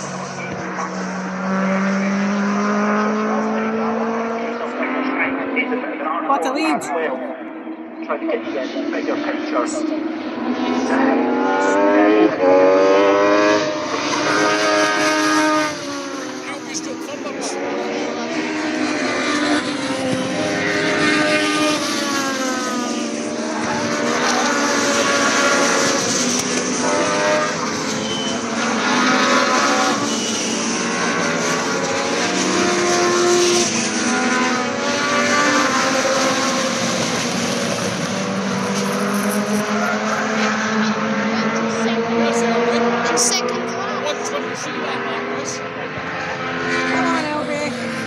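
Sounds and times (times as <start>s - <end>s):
race car engine revving hard: 0.0s - 8.1s, 8.8s - 48.0s.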